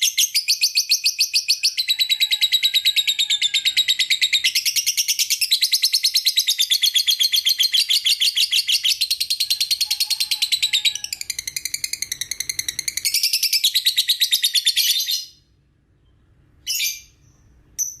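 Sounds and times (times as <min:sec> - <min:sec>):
lovebird chirping: 0:00.0 - 0:18.0.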